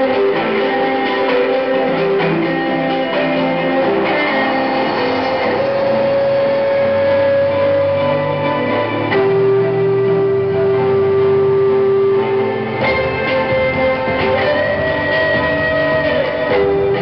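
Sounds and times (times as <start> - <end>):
electric guitar notes: 0.0 - 17.0
low bass notes: 0.0 - 17.0.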